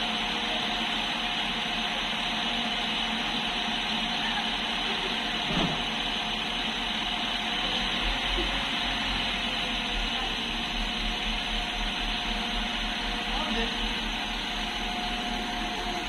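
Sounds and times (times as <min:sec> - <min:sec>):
standing train mechanical hum: 0:00.0 - 0:16.0.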